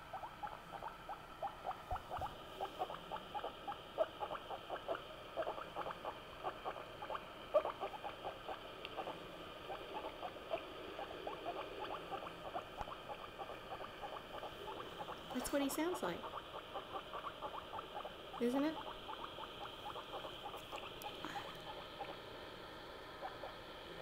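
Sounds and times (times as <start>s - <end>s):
guinea pig squeaking: 0.0s - 22.2s, 23.2s - 23.6s.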